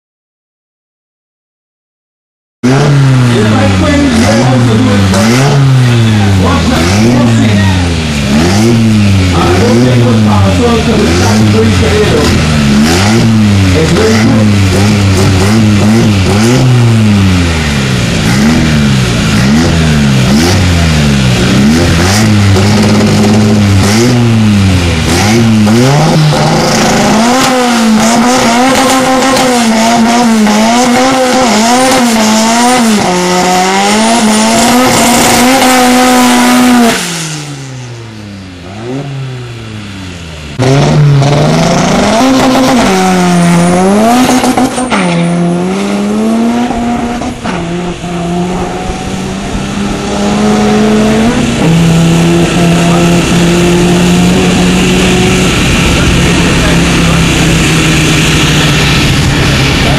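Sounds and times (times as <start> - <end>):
car engine revving: 2.6 - 59.9.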